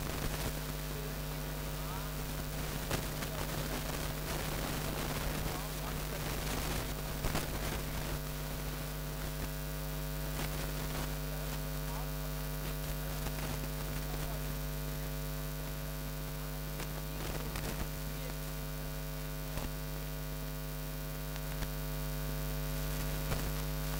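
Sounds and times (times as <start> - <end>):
electrical mains hum: 0.0 - 23.9.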